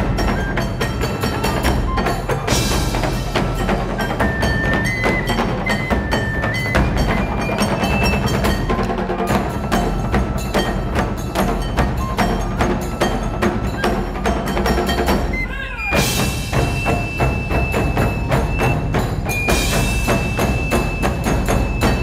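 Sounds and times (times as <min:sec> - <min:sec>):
taiko drums playing: 0:00.0 - 0:22.0.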